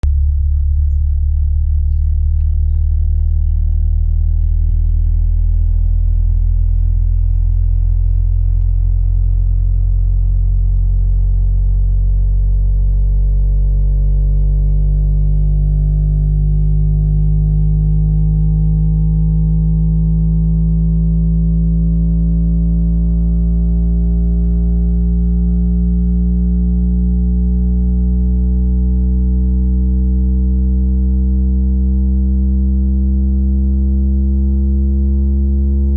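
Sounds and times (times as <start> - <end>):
subwoofer bass test tone: 0.0 - 35.9.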